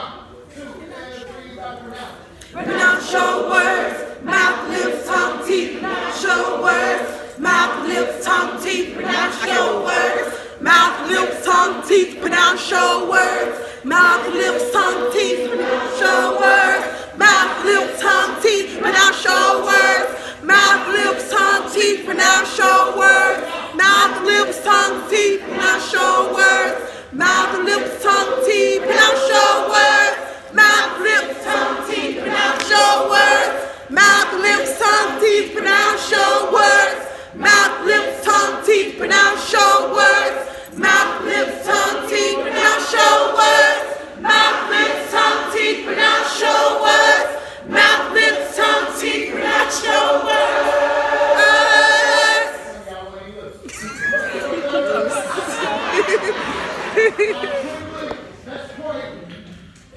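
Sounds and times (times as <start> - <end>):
choir singing a cappella: 2.2 - 53.0, 54.2 - 58.2.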